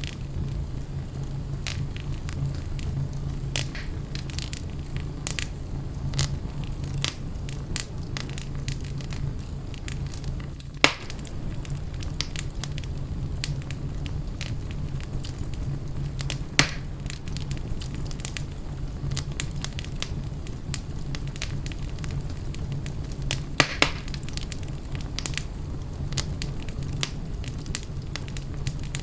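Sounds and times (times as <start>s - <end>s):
low rumble of flame: 0.0s - 29.0s
wood fire crackling and popping: 0.0s - 29.0s.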